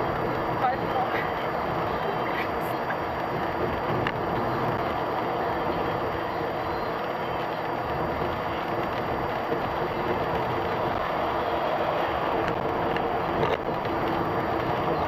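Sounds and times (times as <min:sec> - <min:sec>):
vehicle road and engine noise: 0:00.0 - 0:15.0.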